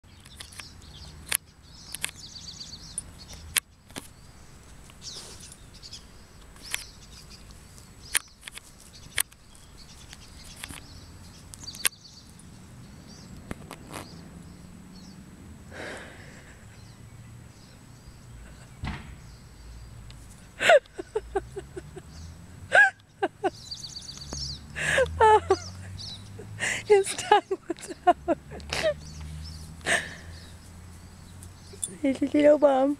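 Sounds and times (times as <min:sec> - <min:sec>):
faint birds chirping: 0:00.0 - 0:32.9.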